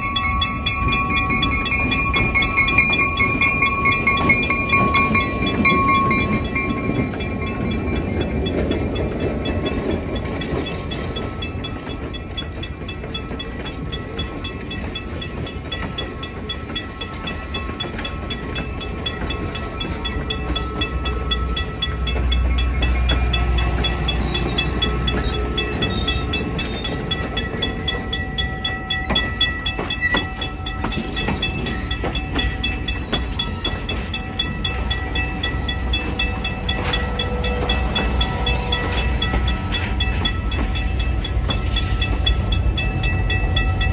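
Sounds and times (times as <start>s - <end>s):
train wheels clicking over rail joints: 0.0s - 43.9s
wheels squealing on rails: 0.0s - 43.9s.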